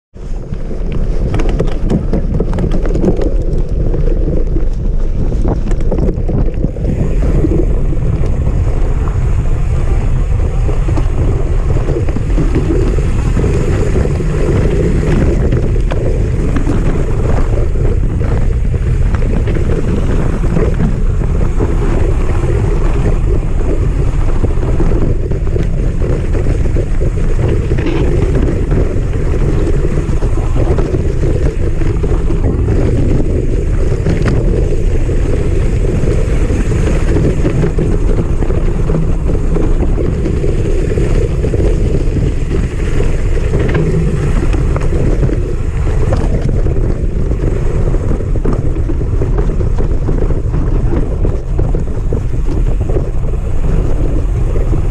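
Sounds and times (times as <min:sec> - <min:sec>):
bike tyre rumble: 0:00.0 - 0:54.9
wind buffeting microphone: 0:00.1 - 0:54.9
bike rattles and knocks: 0:00.2 - 0:54.9.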